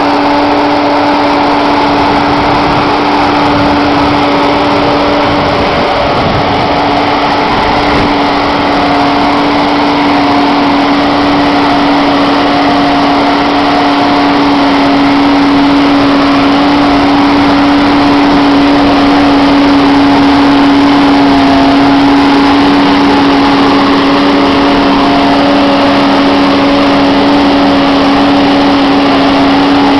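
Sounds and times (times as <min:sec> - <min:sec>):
tractor engine running under load: 0:00.0 - 0:29.9.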